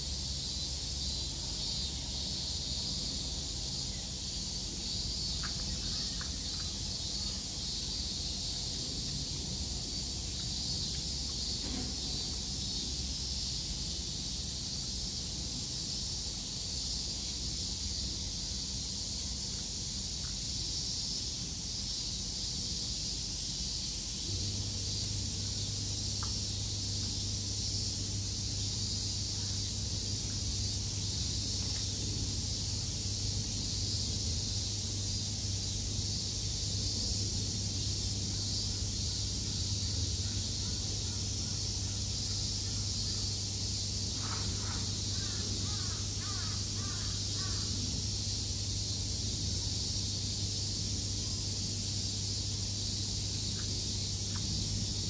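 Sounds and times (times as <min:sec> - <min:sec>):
high-pitched outdoor hiss: 0:00.0 - 0:55.0.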